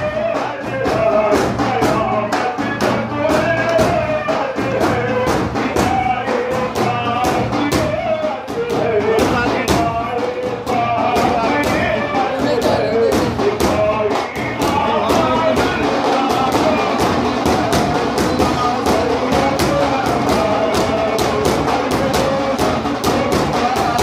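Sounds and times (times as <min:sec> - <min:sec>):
devotional singing: 0:00.0 - 0:24.0
frame drums beating: 0:00.0 - 0:24.0.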